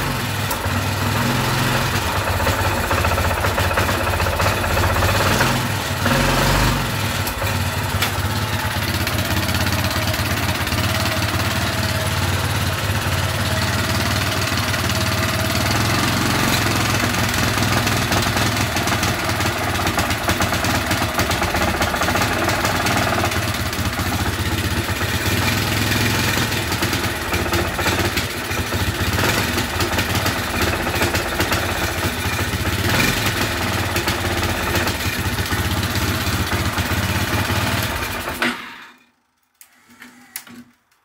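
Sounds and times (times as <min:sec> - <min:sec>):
scooter engine running: 0:00.0 - 0:38.4.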